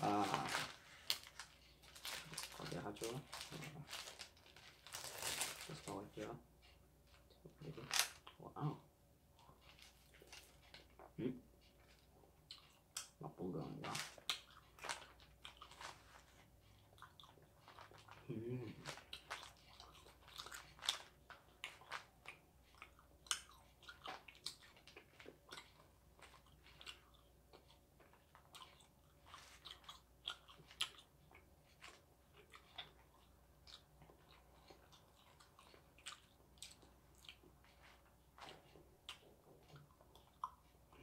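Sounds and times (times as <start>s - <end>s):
chewing dried snack: 0.0s - 8.8s, 9.4s - 41.0s.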